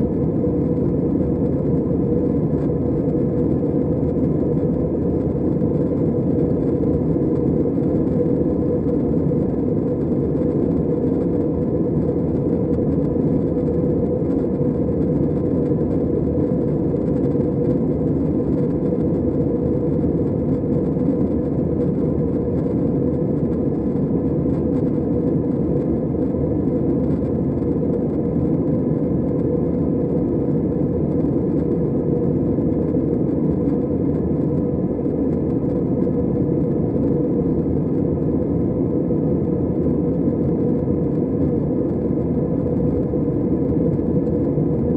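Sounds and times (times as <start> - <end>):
airplane cabin engine drone: 0.0 - 44.9
faint hum: 0.0 - 44.9.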